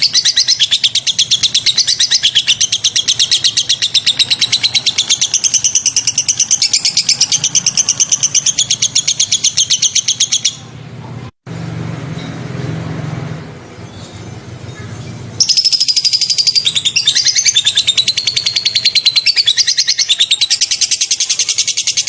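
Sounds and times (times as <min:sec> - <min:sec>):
songbird chirping: 0:00.0 - 0:10.9, 0:13.3 - 0:22.0.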